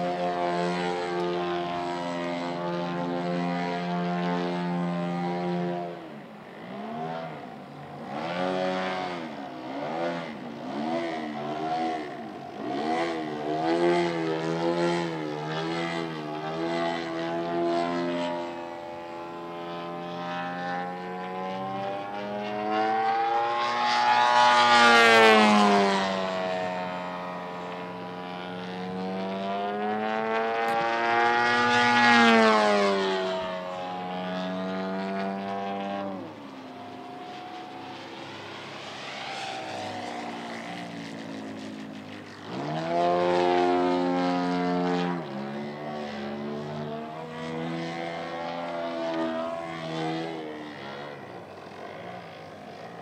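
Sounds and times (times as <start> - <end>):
model airplane engine and propeller: 0.0 - 53.0.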